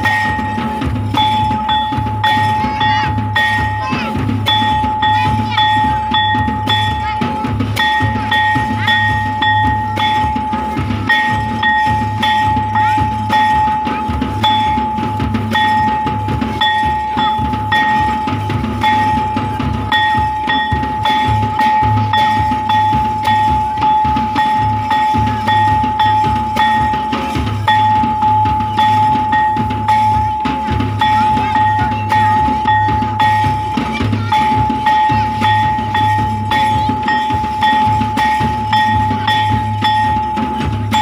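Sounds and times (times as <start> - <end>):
high piping tone: 0.0 - 41.0
large drums beating: 0.0 - 41.0.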